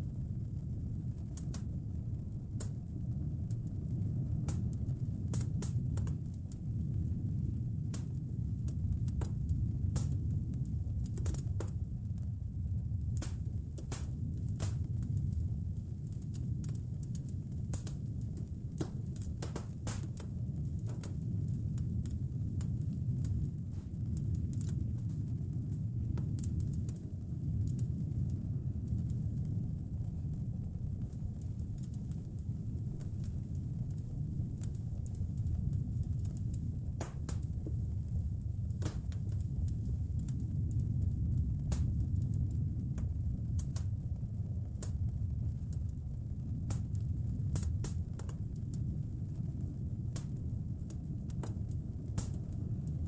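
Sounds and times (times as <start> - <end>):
blizzard wind rumbling: 0.0 - 53.0
wood fire crackling: 0.1 - 53.0.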